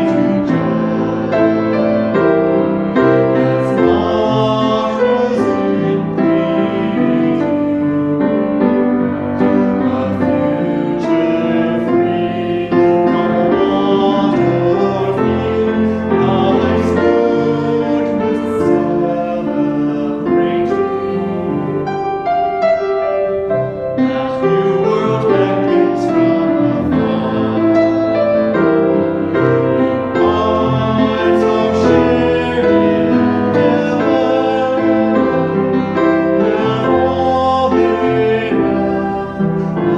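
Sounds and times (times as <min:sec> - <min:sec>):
person singing: 0:00.0 - 0:08.2, 0:09.3 - 0:22.5, 0:29.3 - 0:39.9
piano chords: 0:00.0 - 0:39.9.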